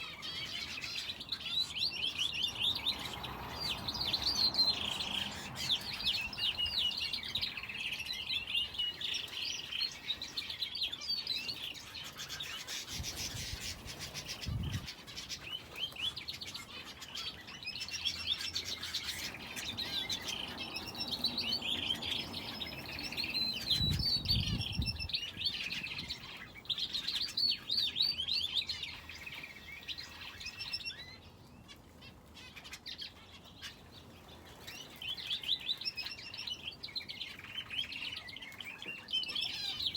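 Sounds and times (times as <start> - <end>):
finches and canary chirping: 0.0 - 39.9.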